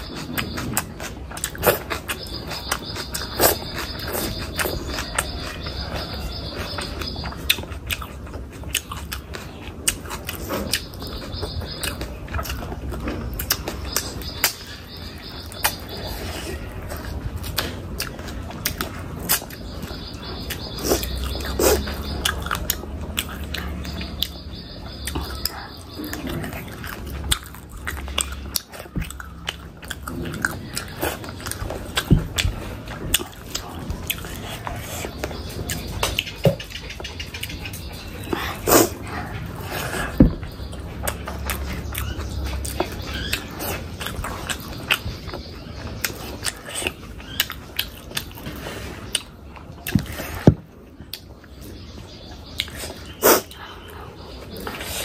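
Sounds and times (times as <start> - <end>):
chewing and mouth smacks: 0.0 - 50.4, 52.4 - 53.7.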